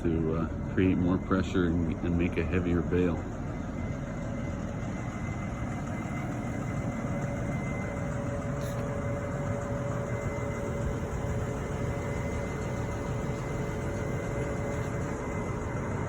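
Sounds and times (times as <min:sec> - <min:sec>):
engine idling with faint whine: 0:00.0 - 0:16.0.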